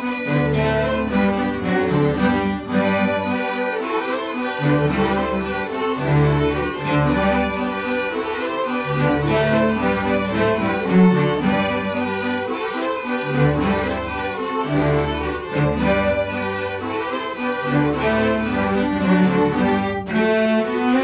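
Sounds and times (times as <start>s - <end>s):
cellos and basses playing low line: 0.0s - 21.0s
violins playing melody: 0.0s - 21.0s.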